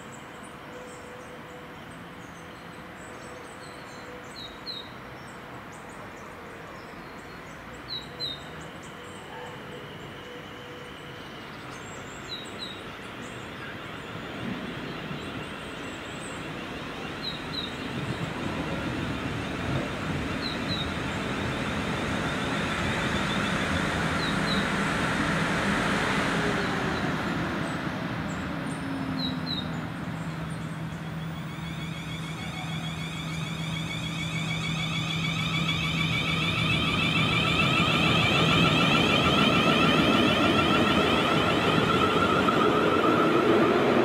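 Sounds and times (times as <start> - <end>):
electric whine of train: 0.0 - 44.0
train wheel and running noise: 0.0 - 44.0.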